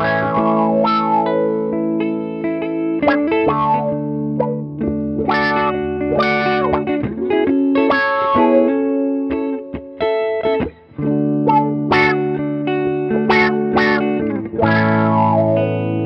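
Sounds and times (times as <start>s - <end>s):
electric guitars with auto-wah: 0.0s - 16.0s.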